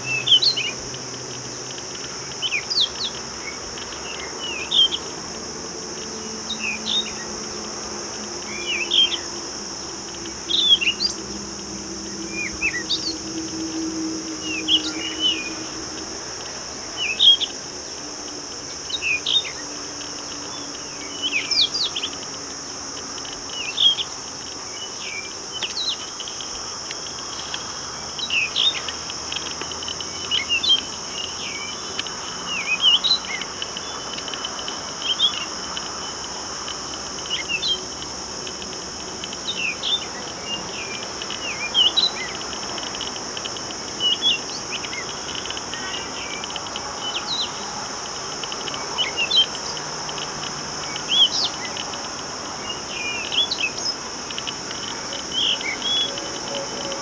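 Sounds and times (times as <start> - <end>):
songbird chirping: 0.0 - 22.5, 23.2 - 36.2, 38.6 - 57.0
insect chorus drone: 0.0 - 57.0.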